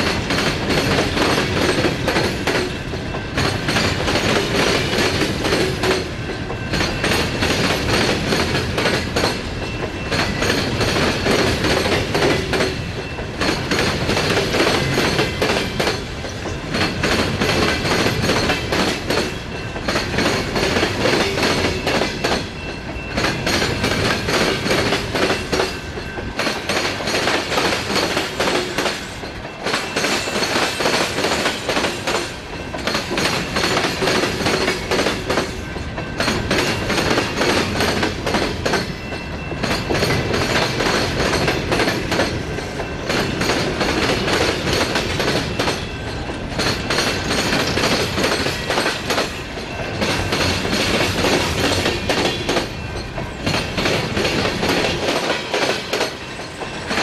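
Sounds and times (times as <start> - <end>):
freight train wheels clicking: 0.0 - 57.0
train cars rattling: 0.0 - 57.0.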